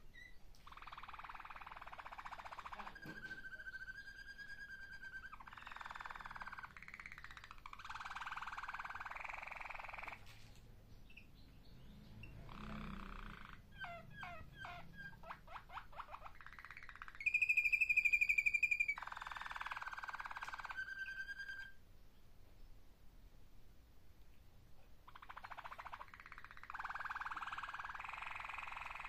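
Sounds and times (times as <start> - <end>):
canary singing trills and whistles: 0.0 - 10.2, 11.0 - 21.8, 25.1 - 29.0.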